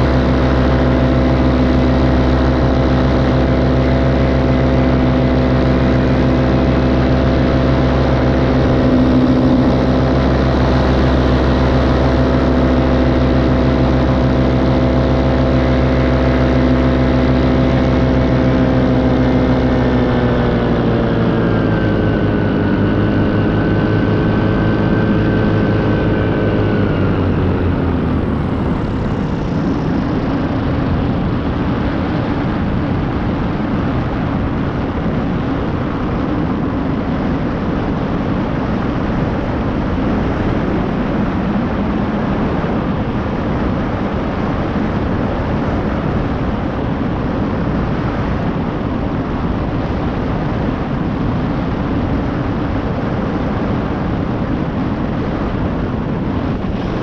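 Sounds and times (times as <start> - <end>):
small aircraft engine droning: 0.0 - 57.0.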